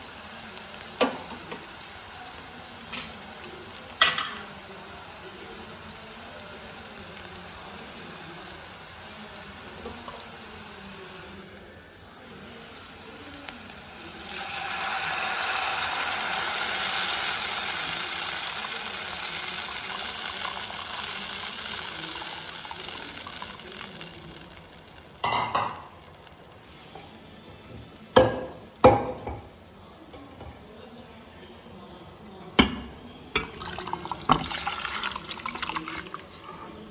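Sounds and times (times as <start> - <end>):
liquid poured into hot pan hissing: 0.0 - 27.4, 33.3 - 36.9
onions sizzling in a pan: 0.0 - 29.5, 32.5 - 36.9.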